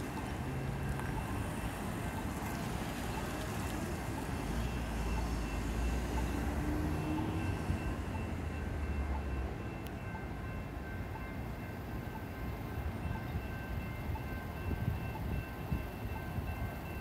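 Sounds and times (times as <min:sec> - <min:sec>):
electronic crossing bells ringing: 0:00.0 - 0:17.0
road traffic rumble: 0:00.0 - 0:17.0.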